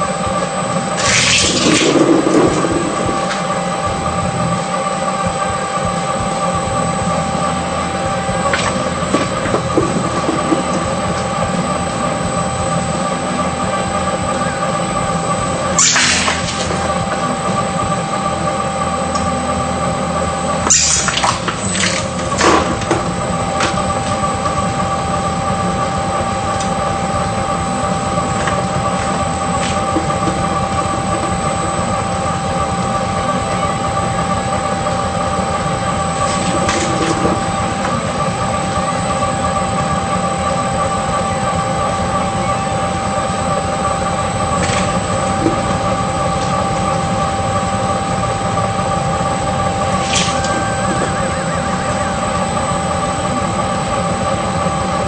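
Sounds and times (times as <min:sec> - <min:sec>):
shredder machine whining: 0:00.0 - 0:55.0.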